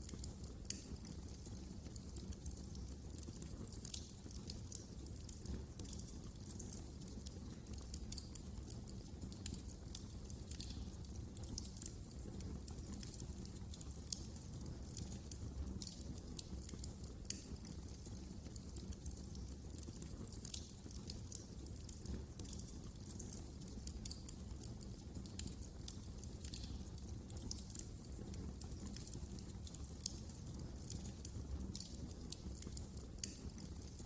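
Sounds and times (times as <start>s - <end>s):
low rumble of flames: 0.0s - 34.0s
wood fire crackling: 0.0s - 34.0s.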